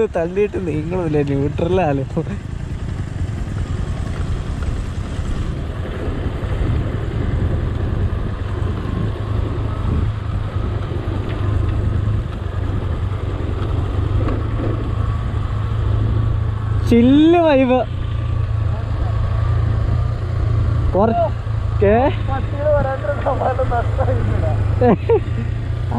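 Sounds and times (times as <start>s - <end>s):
vehicle low rumble: 0.0s - 25.9s
wind buffeting microphone: 0.0s - 25.9s.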